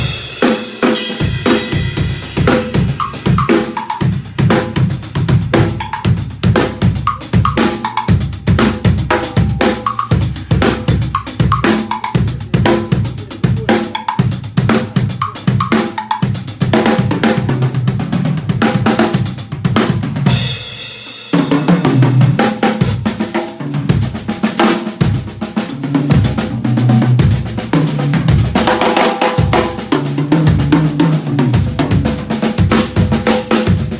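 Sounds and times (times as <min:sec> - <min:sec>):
drum kit groove: 0:00.0 - 0:33.9
tom drums: 0:00.0 - 0:33.9.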